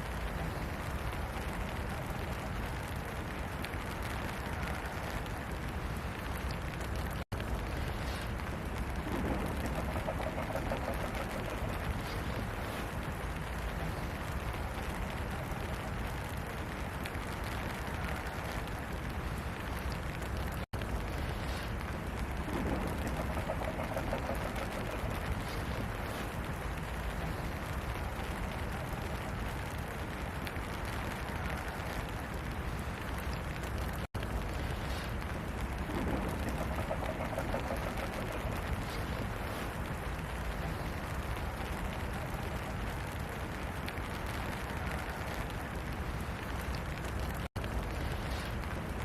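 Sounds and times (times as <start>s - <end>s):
low rumble: 0.0s - 49.0s
steady rain falling: 0.0s - 49.0s.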